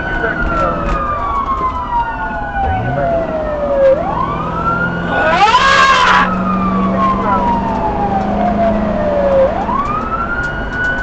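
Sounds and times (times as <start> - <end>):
emergency sirens wailing: 0.0 - 11.0
harsh rising siren sweep: 0.1 - 11.0.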